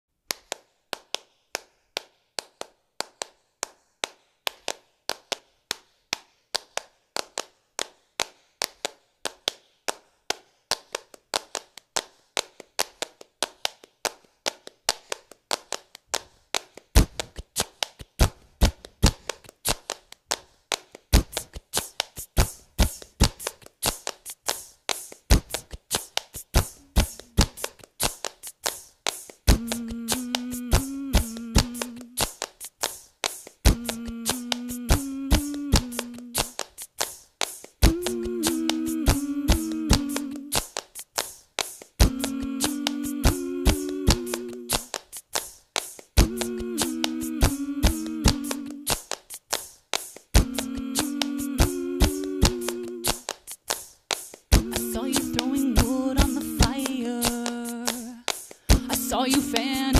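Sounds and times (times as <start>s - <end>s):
looped hand claps: 0.3s - 59.9s.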